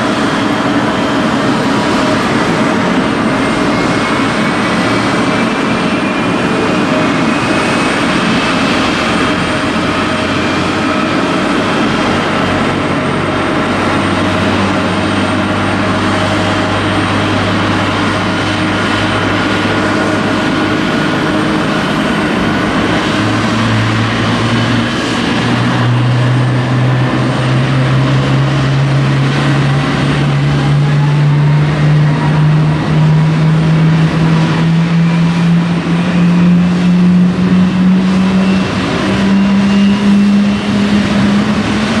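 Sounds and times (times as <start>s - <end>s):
jet engine spooling up: 0.0s - 42.0s.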